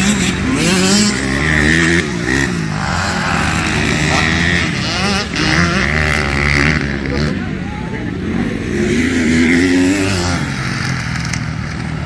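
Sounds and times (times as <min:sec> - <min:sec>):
motocross engines revving: 0:00.0 - 0:12.0.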